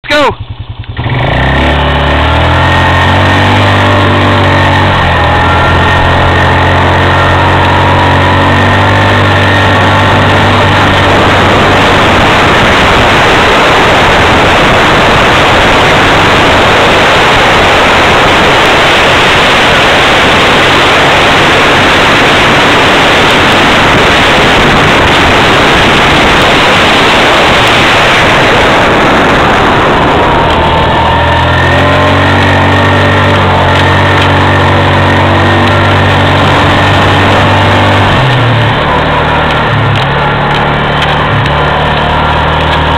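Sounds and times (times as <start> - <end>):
quad engine running: 0.0 - 42.9
wind noise at speed: 0.9 - 42.9.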